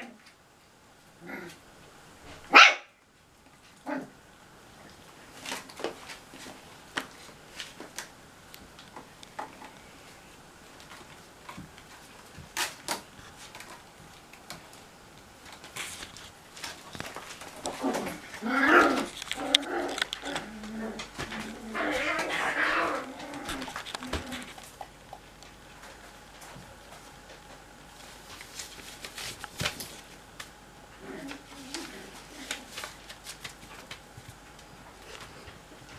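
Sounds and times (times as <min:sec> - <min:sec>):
paws and claws on tiled floor: 0:04.7 - 0:35.9.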